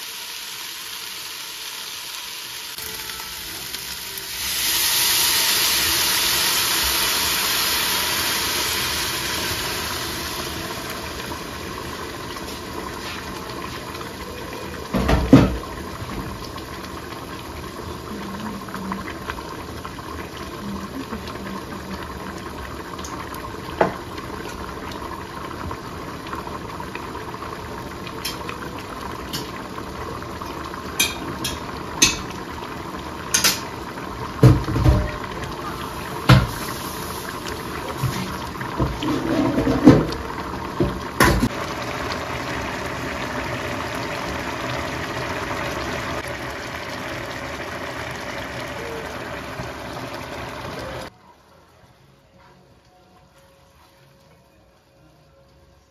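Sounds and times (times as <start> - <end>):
water hissing in hot pot: 0.0 - 51.1
pot bubbling at a boil: 0.0 - 51.8.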